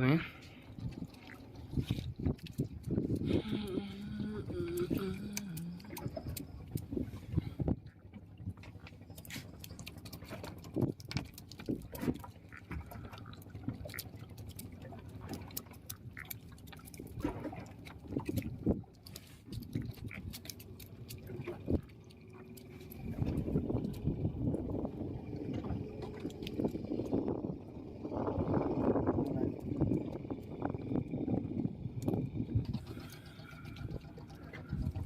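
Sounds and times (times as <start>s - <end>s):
water slapping against boat hull: 0.6s - 35.0s.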